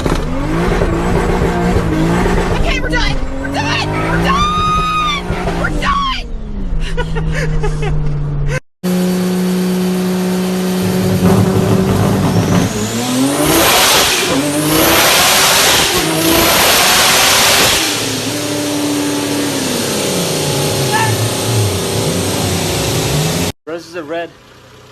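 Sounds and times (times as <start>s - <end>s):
car engine accelerating: 0.0s - 23.6s.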